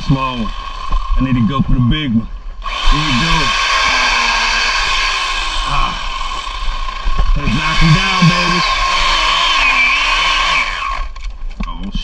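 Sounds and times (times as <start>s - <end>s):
electric chainsaw whining: 0.0s - 1.4s, 2.6s - 11.4s.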